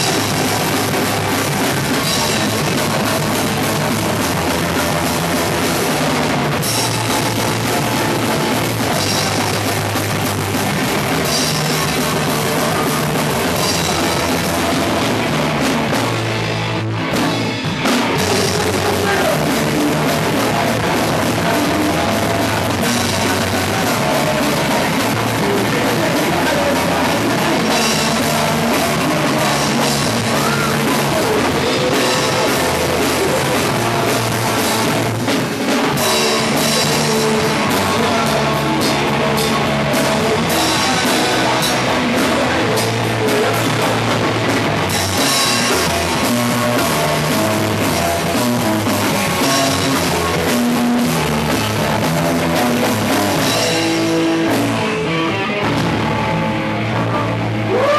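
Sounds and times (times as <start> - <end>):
drum kit: 0.0 - 57.9
electric guitars: 0.0 - 57.9.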